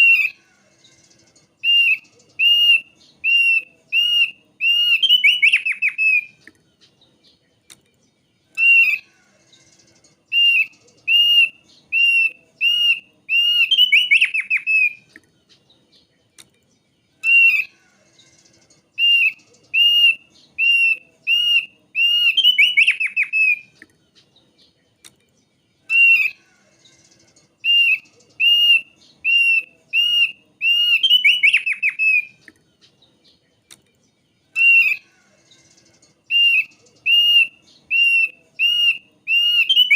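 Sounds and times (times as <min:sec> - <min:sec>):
bird singing whistled notes: 0:00.0 - 0:16.1, 0:16.7 - 0:33.4, 0:34.0 - 0:39.9.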